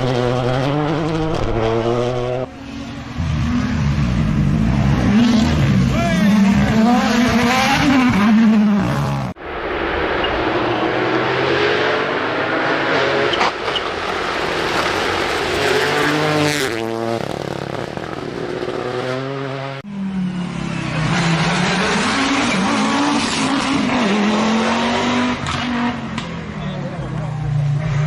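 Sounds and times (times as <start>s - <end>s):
rally car engine revving: 0.0s - 9.4s, 10.4s - 19.9s, 20.7s - 28.0s.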